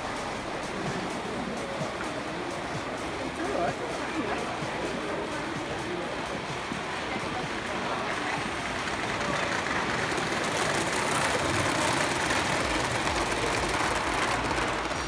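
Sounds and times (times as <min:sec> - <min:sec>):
model train wheels rumbling on rails: 0:00.0 - 0:15.0.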